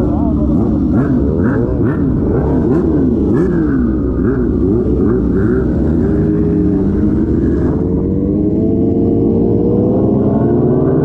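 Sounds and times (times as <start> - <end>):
superbike engines revving: 0.0 - 11.0.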